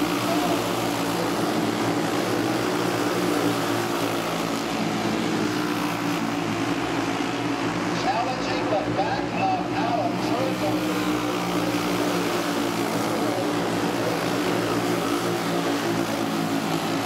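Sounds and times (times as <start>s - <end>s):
racing kart engines humming: 0.0s - 17.0s.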